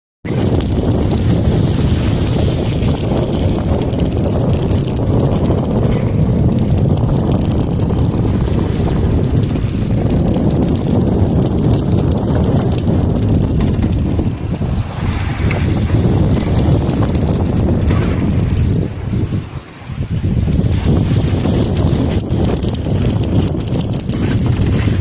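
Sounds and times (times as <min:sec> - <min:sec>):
wind buffeting microphone: 0:00.2 - 0:25.0.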